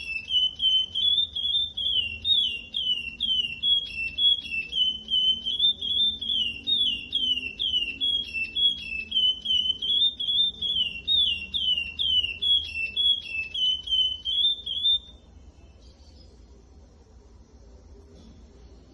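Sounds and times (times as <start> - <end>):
bird singing whistled notes: 0.0 - 16.4.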